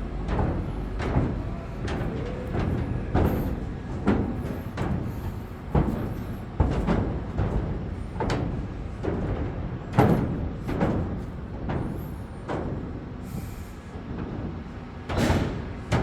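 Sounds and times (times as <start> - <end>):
construction machinery rumbling: 0.0 - 16.0
knocks and clanks: 0.2 - 13.0, 14.2 - 16.0.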